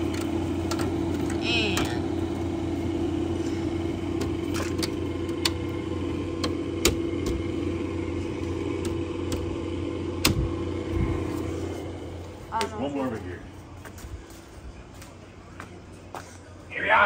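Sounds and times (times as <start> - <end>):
air conditioner motor hum: 0.0 - 17.0.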